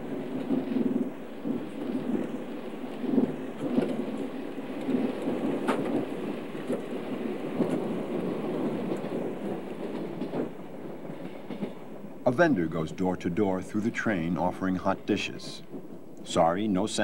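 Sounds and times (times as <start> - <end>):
train carriage rumble and rattle: 0.0 - 17.0.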